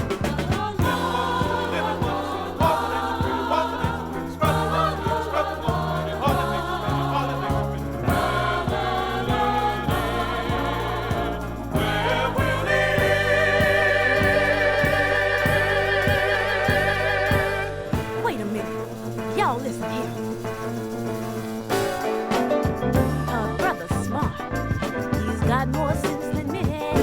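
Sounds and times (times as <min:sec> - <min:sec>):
gospel choir singing: 0:00.0 - 0:20.6, 0:21.3 - 0:27.0
band with drums and bass: 0:00.0 - 0:27.0.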